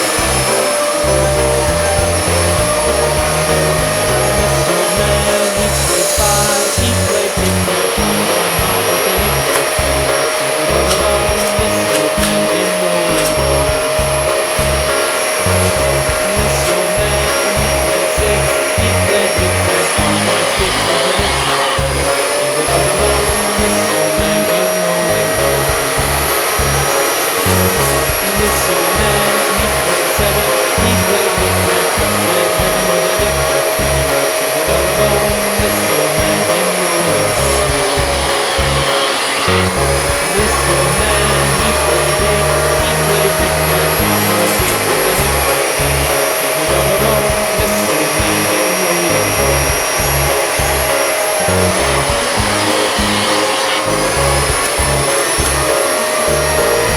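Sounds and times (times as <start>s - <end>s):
background music with bassline: 0.0s - 56.9s
vacuum whining: 0.0s - 56.9s.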